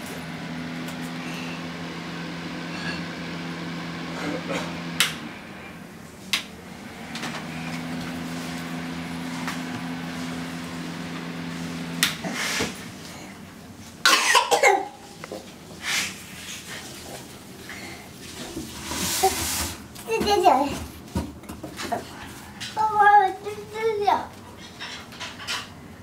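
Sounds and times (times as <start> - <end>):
fan heater humming: 0.0 - 26.0.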